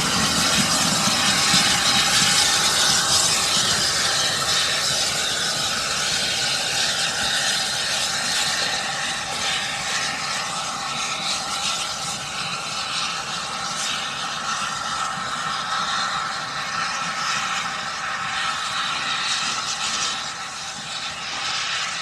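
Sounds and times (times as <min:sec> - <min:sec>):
steam train hissing: 0:00.0 - 0:22.0.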